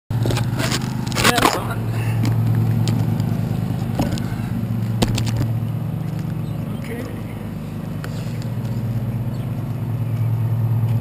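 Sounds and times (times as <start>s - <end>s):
drone motors humming: 0.1s - 11.0s.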